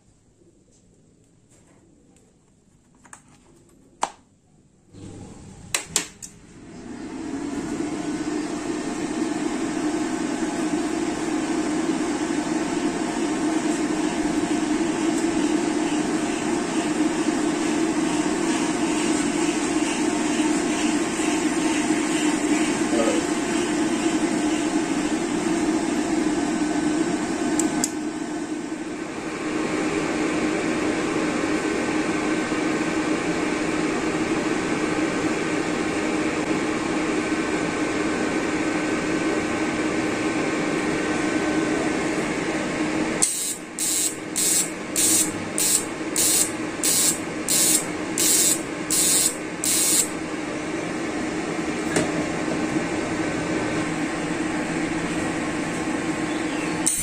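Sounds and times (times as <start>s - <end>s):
welder cooling fan hum: 4.9s - 57.0s.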